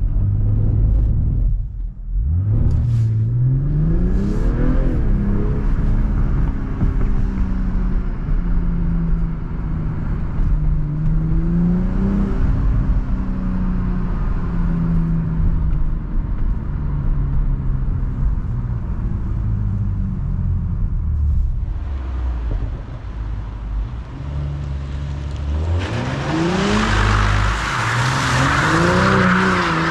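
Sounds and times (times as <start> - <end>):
car engine revving while driving: 0.0 - 20.6, 24.0 - 29.9.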